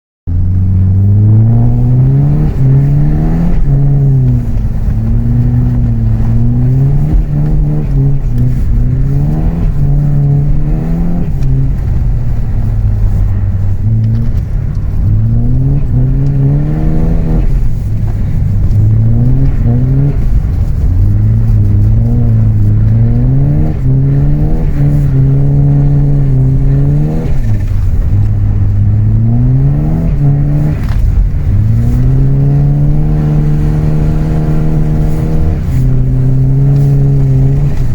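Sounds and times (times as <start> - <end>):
car engine revving: 0.3 - 37.9.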